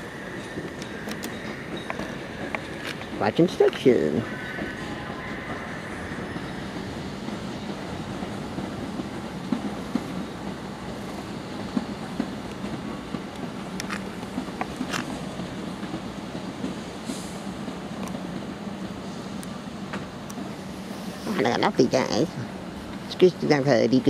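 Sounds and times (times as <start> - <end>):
wheels clacking over rail joints: 0.0 - 20.6
train humming past: 0.0 - 24.0.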